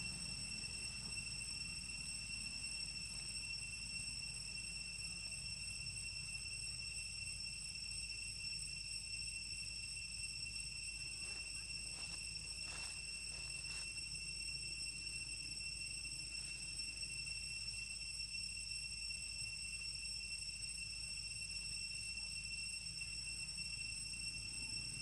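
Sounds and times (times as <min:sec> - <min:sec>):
high-pitched insect trill: 0:00.0 - 0:25.0.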